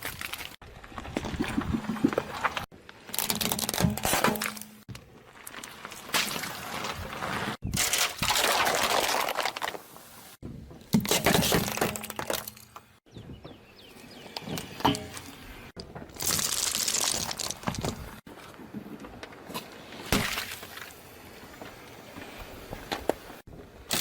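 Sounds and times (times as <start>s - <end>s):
objects crunching under car tyre: 0.0s - 10.0s, 13.9s - 24.0s.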